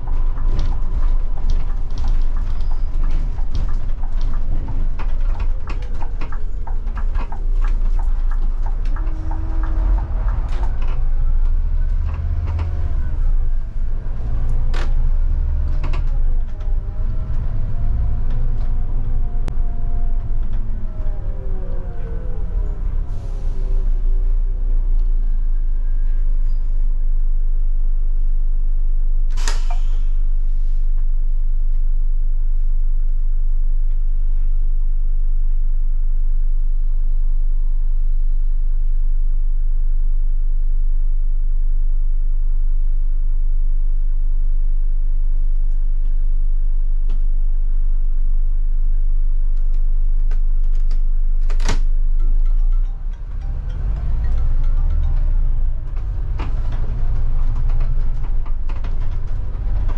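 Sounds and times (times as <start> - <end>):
bus engine rumbling: 0.0 - 39.7, 43.8 - 59.9.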